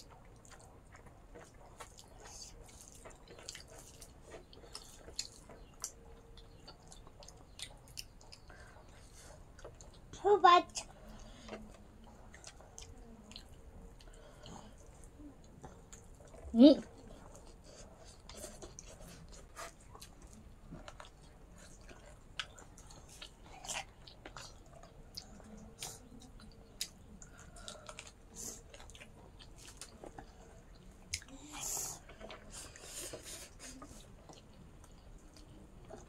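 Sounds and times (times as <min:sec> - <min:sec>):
chewing with wet smacks: 0:00.0 - 0:36.0.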